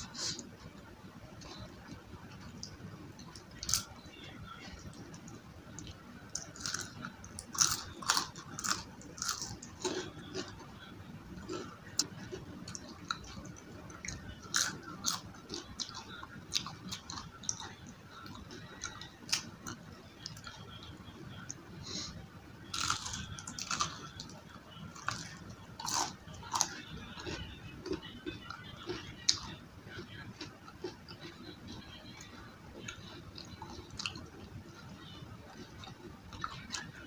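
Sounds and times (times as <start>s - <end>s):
crunchy fried food being chewed: 0.0s - 37.0s.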